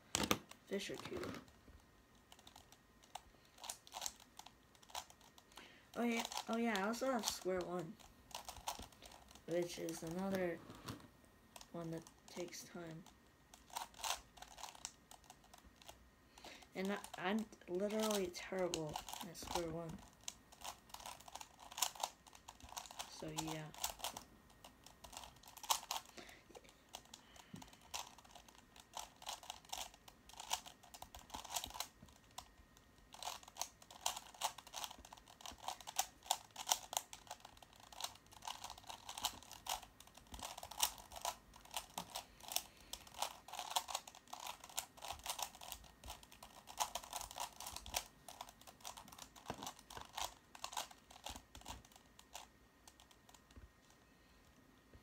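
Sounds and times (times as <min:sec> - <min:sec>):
puzzle cube clicking: 0:00.1 - 0:11.0, 0:11.6 - 0:53.6.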